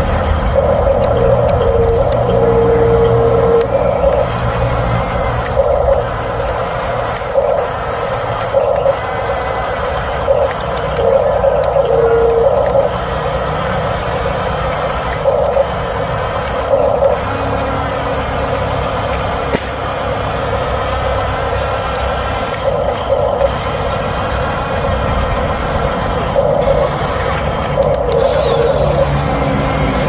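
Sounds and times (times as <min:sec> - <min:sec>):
toy motors whirring: 0:00.0 - 0:30.0.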